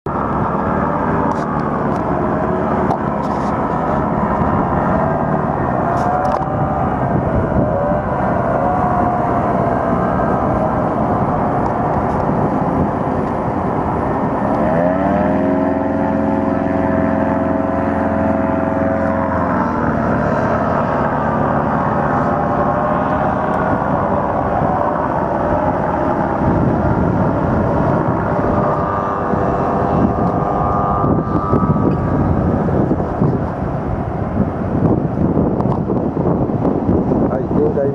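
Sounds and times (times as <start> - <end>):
paramotor engine running: 0.1 - 37.8.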